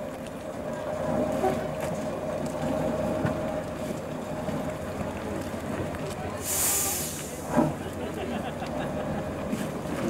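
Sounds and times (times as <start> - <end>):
truck engine rumbling under load: 0.0 - 10.0.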